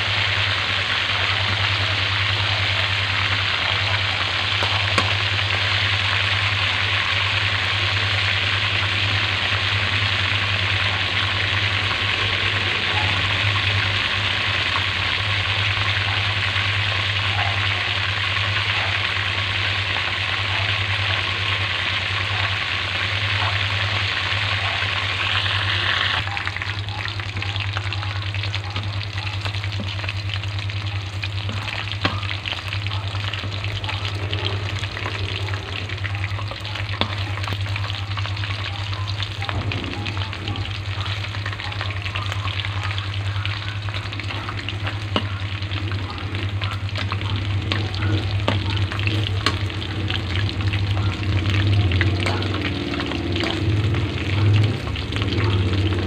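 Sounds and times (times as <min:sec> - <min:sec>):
chicken frying in hot oil: 0:00.0 - 0:56.0
low hum: 0:00.0 - 0:56.0.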